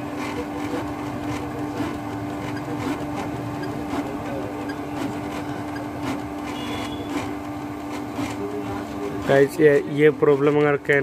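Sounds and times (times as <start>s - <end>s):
printer pump humming: 0.0s - 11.0s.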